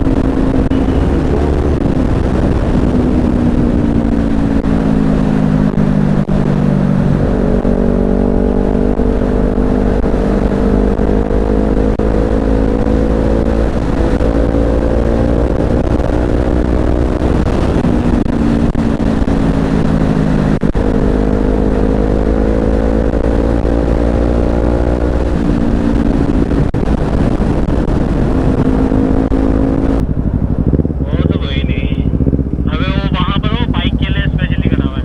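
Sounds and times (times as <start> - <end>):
motorcycle engine revving: 0.0 - 35.0
traffic: 0.0 - 35.0
wind rush on microphone: 0.0 - 35.0.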